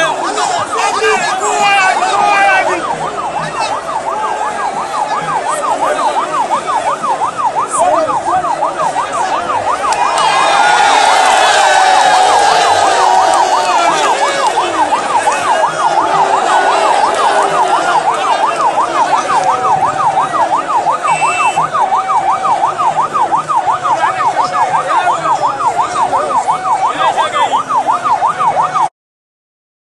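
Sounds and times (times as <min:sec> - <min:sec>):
crowd voices: 0:00.0 - 0:28.9
electronic siren yelping: 0:00.0 - 0:28.9.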